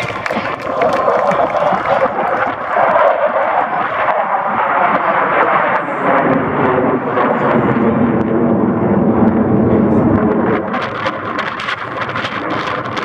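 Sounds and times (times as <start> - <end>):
jet roar passing overhead: 0.0 - 13.0.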